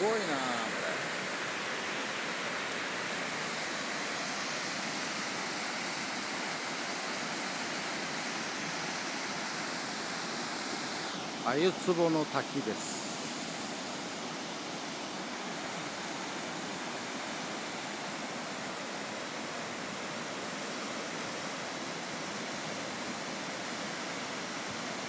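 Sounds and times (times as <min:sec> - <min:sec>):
waterfall hissing: 0:00.0 - 0:25.0.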